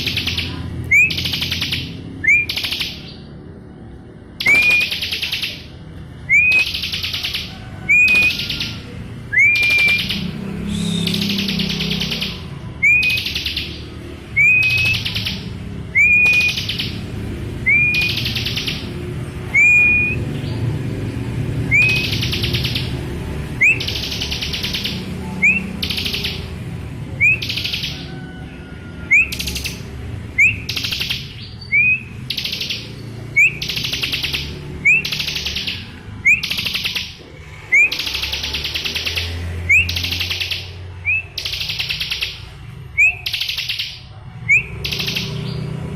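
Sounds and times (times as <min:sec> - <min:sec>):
bird whistling and buzzy trill: 0:00.0 - 0:03.3, 0:04.4 - 0:20.6, 0:21.6 - 0:23.0, 0:23.6 - 0:28.4, 0:29.0 - 0:45.7.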